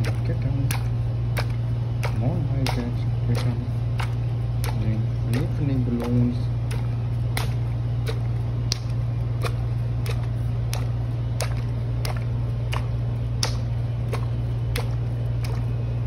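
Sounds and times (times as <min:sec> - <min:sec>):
sharp even clicks: 0:00.0 - 0:15.6
steady low hum: 0:00.0 - 0:16.0.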